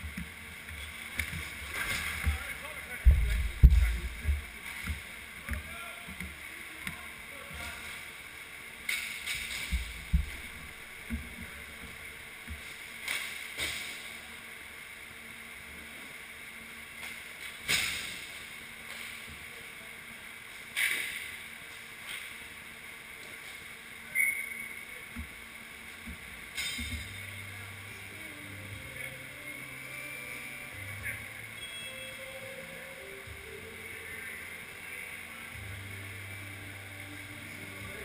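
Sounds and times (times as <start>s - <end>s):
steady background noise: 0.0s - 38.0s.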